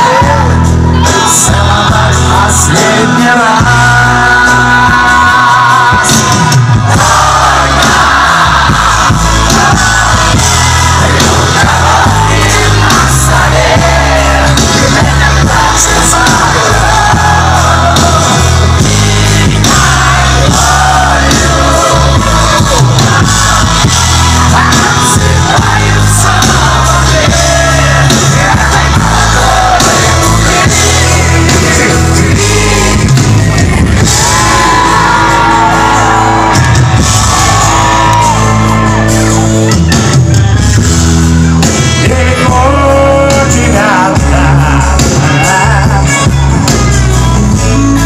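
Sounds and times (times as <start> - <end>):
person singing: 0.0 - 40.5, 41.5 - 48.0
live band playing loudly: 0.0 - 48.0.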